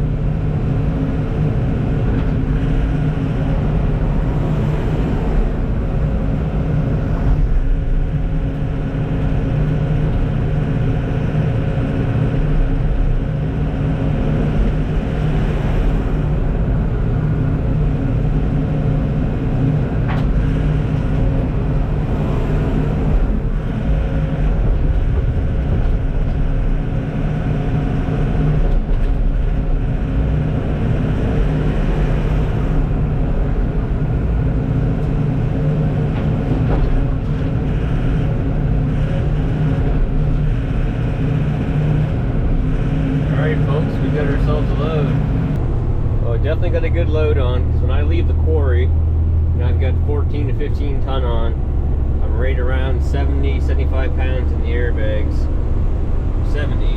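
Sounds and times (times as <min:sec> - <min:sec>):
road noise: 0:00.0 - 0:56.9
truck diesel engine running: 0:00.0 - 0:56.9.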